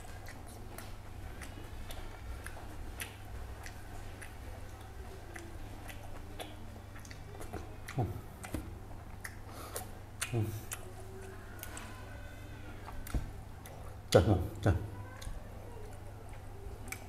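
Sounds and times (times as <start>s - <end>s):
man chewing food: 0.0s - 17.0s.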